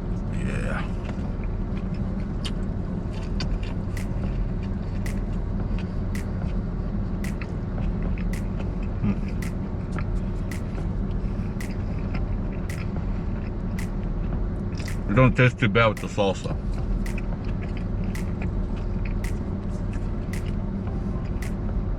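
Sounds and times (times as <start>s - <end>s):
low rumble of a motor: 0.0s - 21.9s
chewing food with crunches: 0.2s - 15.1s, 16.0s - 21.7s.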